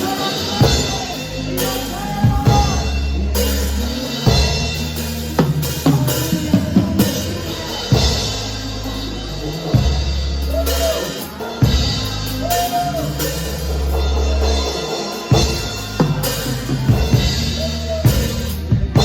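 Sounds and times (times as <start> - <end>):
live band music: 0.0 - 19.0
long held bass notes: 0.0 - 19.0.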